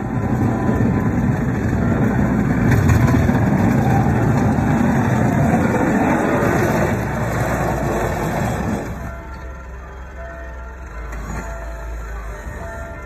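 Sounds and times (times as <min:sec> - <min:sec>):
plow blade pushing snow: 0:00.0 - 0:13.0
truck engine rumbling: 0:00.0 - 0:13.0.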